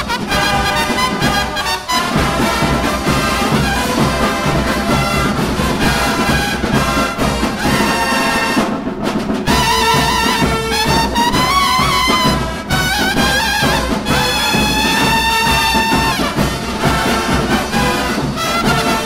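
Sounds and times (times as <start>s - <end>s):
brass horn line playing: 0.0s - 19.0s
steady drum beat: 0.0s - 19.0s.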